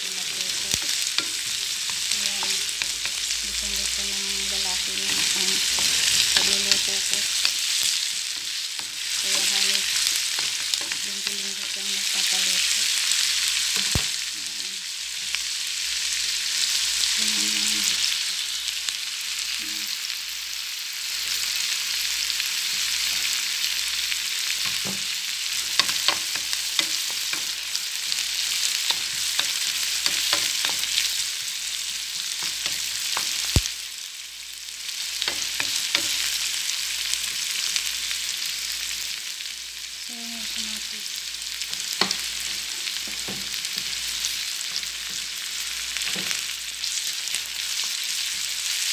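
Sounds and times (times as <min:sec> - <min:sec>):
onions sizzling in oil: 0:00.0 - 0:48.9.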